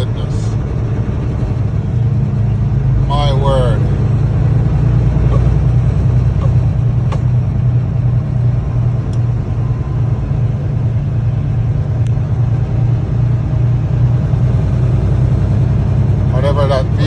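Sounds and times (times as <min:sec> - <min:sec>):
engine and road noise in vehicle: 0:00.0 - 0:17.0.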